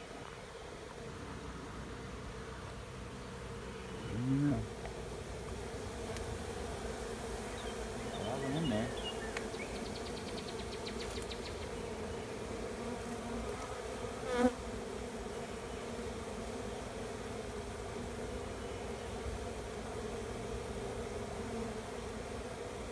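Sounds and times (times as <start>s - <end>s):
bee buzzing close past: 0.0s - 22.9s
bee swarm humming: 0.0s - 22.9s.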